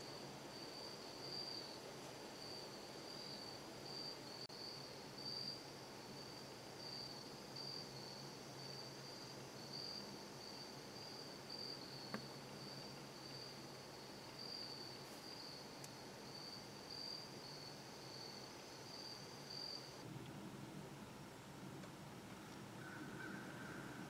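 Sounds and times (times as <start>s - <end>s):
crickets trilling: 0.0s - 20.1s, 22.6s - 24.0s.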